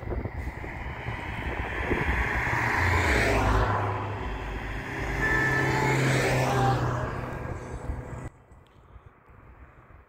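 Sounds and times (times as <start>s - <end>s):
vehicle approaching: 0.0s - 9.9s
vehicle passing by: 0.1s - 8.4s.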